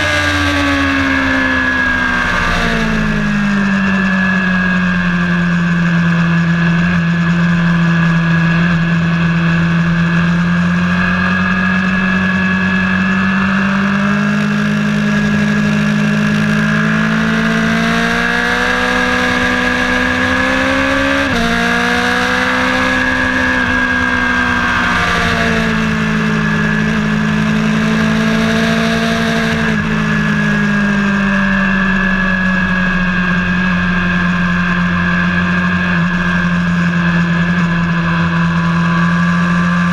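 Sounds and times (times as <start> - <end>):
vehicle engine running hard: 0.0 - 39.9.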